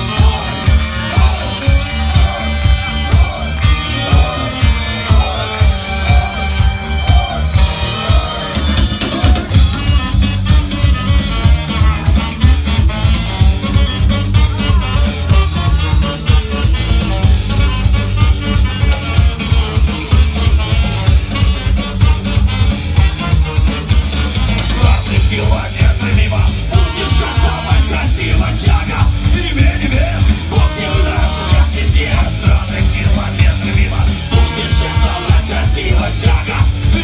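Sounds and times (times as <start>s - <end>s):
punk rock band playing: 0.0s - 37.0s.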